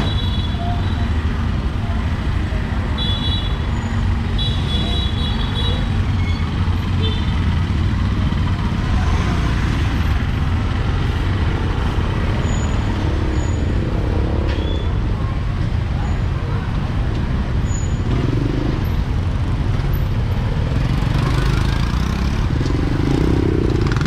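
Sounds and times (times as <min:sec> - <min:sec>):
passing traffic: 0:00.0 - 0:24.0
vehicle engines rumbling: 0:00.0 - 0:24.0.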